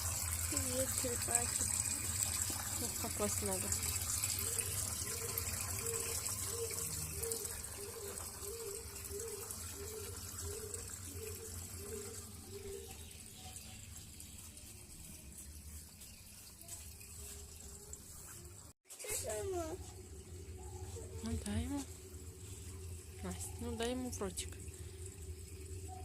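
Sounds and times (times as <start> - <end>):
water running: 0.0 - 26.0.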